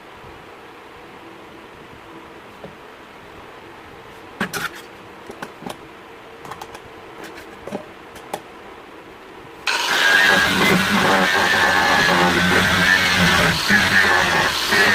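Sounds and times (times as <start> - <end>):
faint steady hiss: 0.0 - 14.9.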